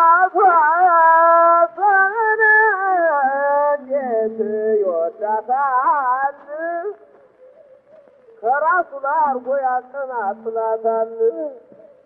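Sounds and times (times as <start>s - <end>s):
man singing on old record: 0.0s - 7.2s, 8.4s - 11.8s.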